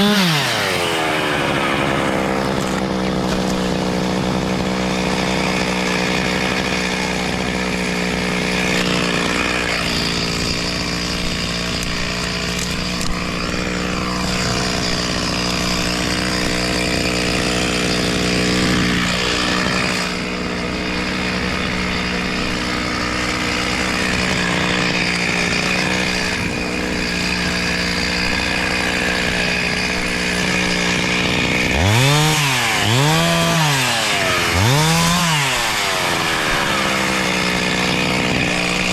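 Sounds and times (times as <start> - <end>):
chainsaw running and revving: 0.0 - 38.9.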